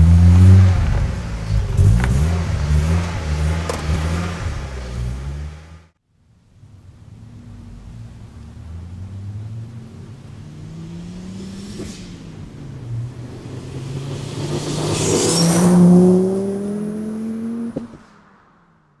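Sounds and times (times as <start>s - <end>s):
car engine accelerating hard: 0.0s - 6.0s, 7.0s - 18.2s.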